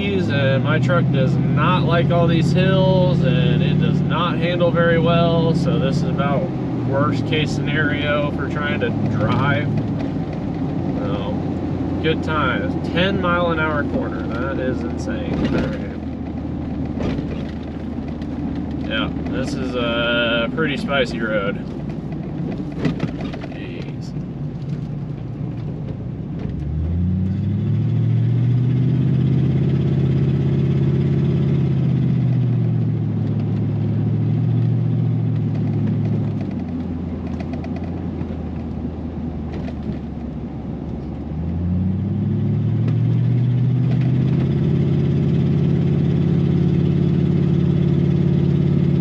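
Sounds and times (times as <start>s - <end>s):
pickup engine accelerating: 0.0s - 49.0s
road noise: 0.0s - 49.0s.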